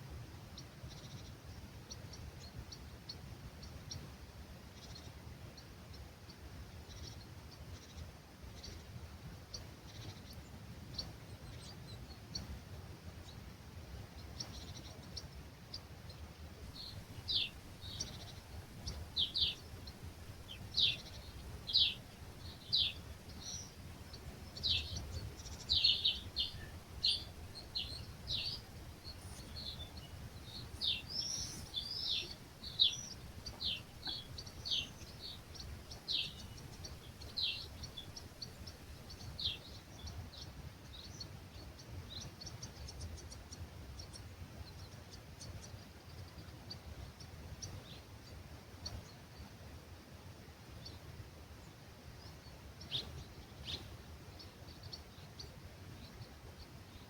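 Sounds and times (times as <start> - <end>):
low rumble of breeze: 0.0 - 57.0
small birds chirping: 0.6 - 4.1, 4.7 - 49.7, 50.4 - 57.0.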